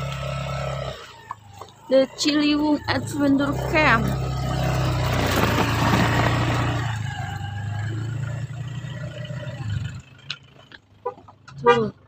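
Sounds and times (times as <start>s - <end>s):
scooter engine running: 0.0s - 11.8s.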